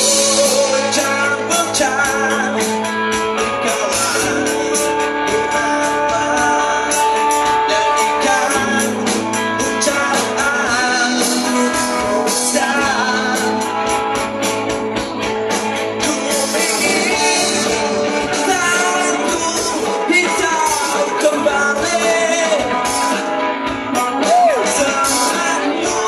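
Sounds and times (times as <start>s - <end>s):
person singing: 0.0s - 14.3s, 15.5s - 26.0s
drums keeping a beat: 0.0s - 26.0s
guitar: 0.0s - 26.0s.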